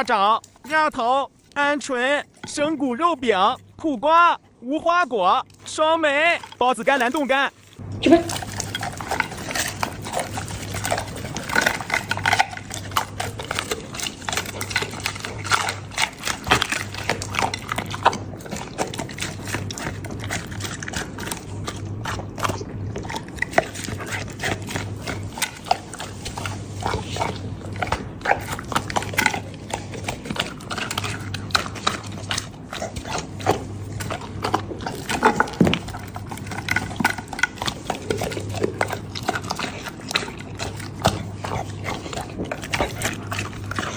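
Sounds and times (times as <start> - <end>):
dog chewing and crunching bones: 0.0 - 43.9.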